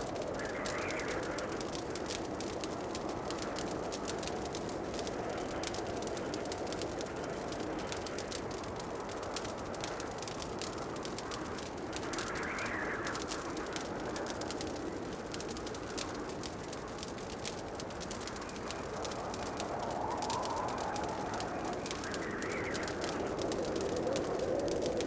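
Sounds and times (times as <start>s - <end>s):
steady rushing hiss: 0.0s - 25.0s
wood fire crackling and popping: 0.0s - 25.0s.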